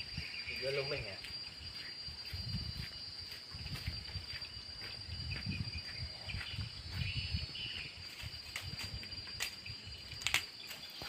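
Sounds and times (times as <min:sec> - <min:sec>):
wind buffeting microphone: 0:00.0 - 0:10.4
insects droning: 0:00.0 - 0:11.0.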